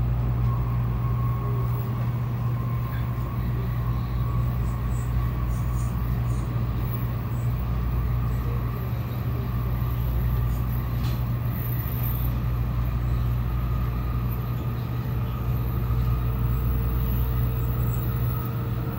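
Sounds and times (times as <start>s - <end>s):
train interior rumble: 0.0s - 18.9s.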